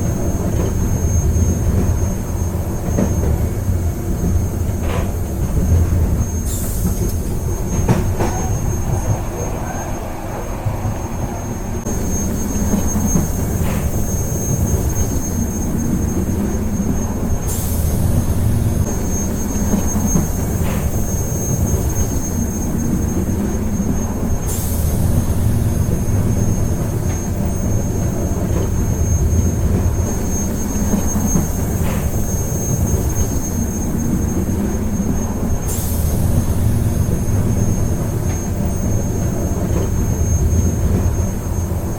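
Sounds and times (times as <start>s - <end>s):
train wheels rumbling: 0.0s - 41.9s.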